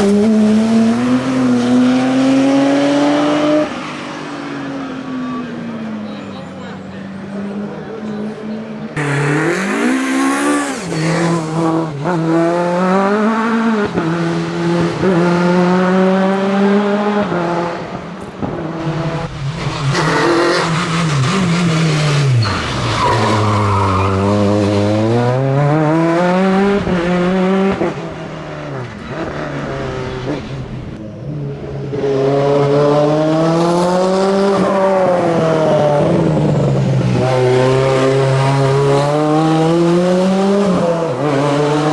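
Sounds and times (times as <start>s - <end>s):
rally car engines revving: 0.0s - 41.9s
tyre noise on road: 3.4s - 41.9s.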